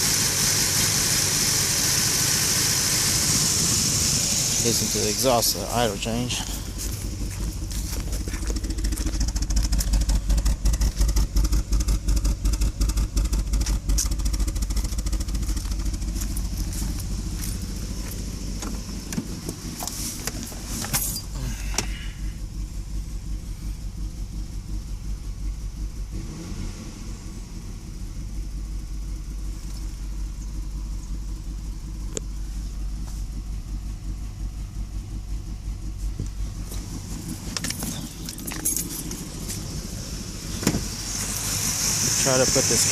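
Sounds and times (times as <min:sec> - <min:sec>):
car engine idling roughly: 0:00.0 - 0:42.9.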